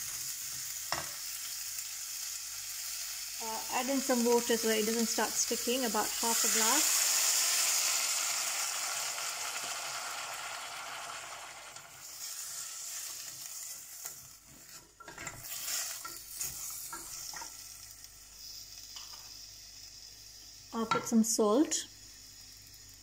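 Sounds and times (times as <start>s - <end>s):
water sizzling in hot pan: 0.0s - 23.0s.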